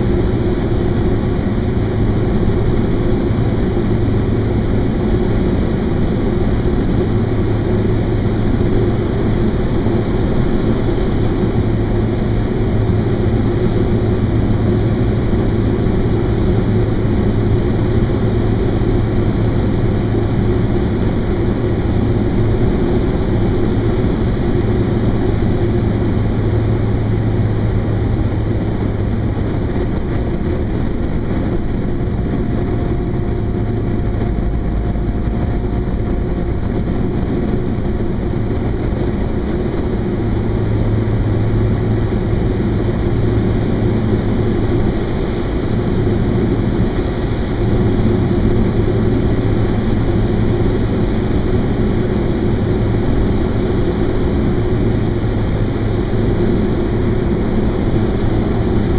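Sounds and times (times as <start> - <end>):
plane engine and propeller drone: 0.0 - 58.9.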